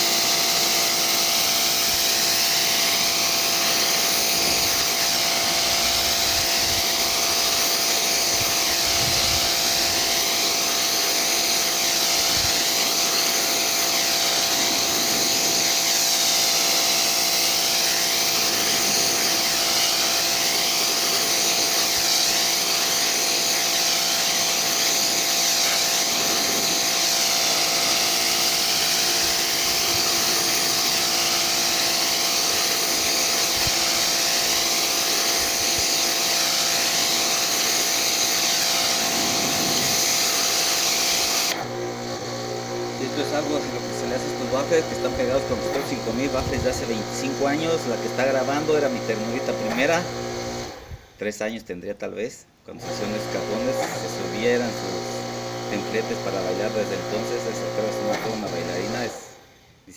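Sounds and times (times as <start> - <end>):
vacuum cleaner running: 0.0 - 51.0, 52.7 - 59.4.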